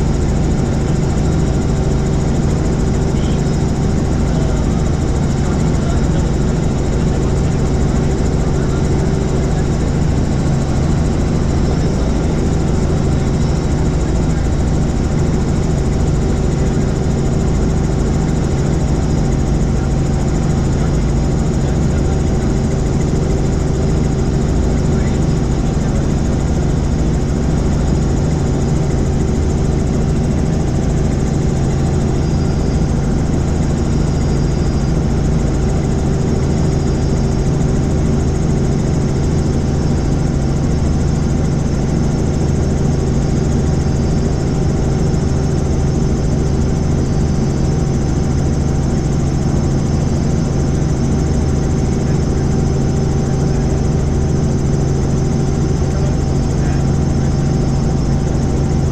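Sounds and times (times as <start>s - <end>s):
helicopter engine and rotors: 0.0s - 58.9s.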